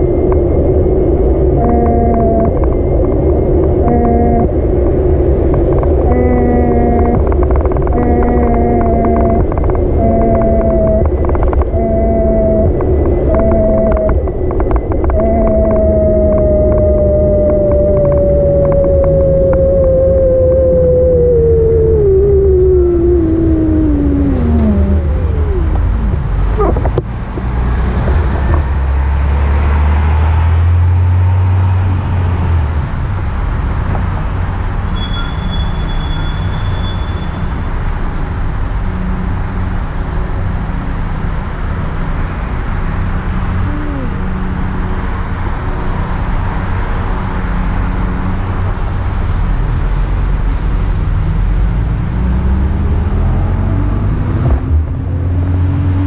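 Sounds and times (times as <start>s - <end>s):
falling whine: 0.0s - 33.0s, 41.9s - 56.0s
traffic rush on wet road: 0.0s - 56.0s.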